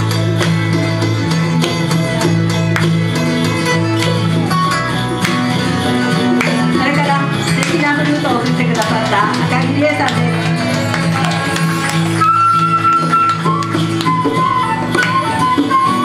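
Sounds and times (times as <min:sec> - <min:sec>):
acoustic guitars strumming: 0:00.0 - 0:16.0.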